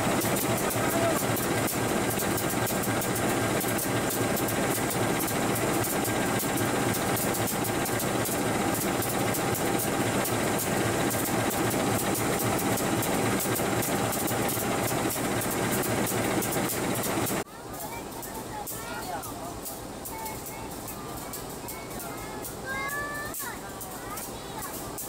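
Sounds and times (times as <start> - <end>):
diesel locomotive idling: 0.0 - 23.4.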